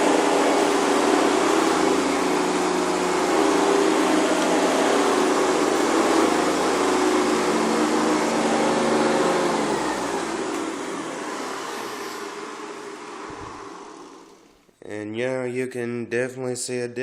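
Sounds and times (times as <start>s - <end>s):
vacuum cleaner motor humming: 0.0s - 14.7s.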